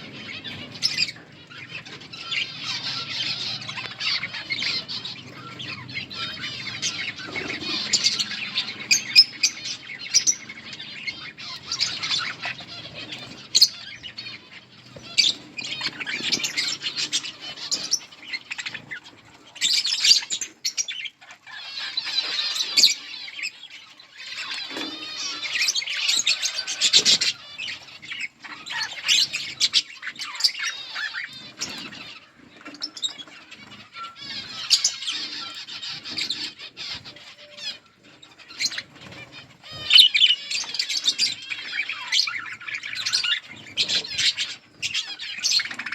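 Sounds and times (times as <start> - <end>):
budgerigars chirping and warbling: 0.0 - 45.9.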